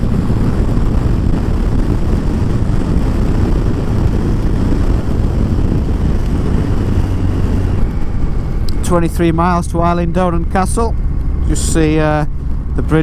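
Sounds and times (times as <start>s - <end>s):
motorcycle cruising rumble: 0.0s - 13.0s.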